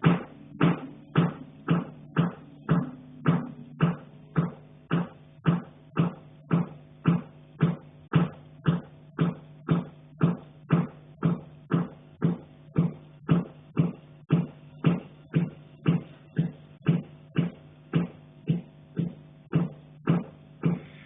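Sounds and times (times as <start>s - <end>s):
regular knocking with ringing tone: 0.0s - 20.9s.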